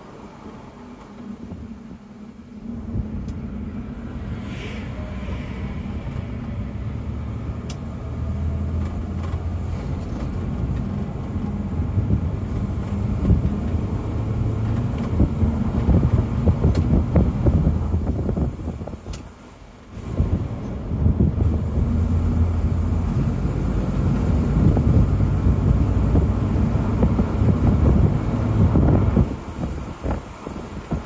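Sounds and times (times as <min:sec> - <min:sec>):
tyre and road noise: 0:00.0 - 0:31.0
car engine accelerating: 0:00.4 - 0:19.1, 0:19.9 - 0:31.0.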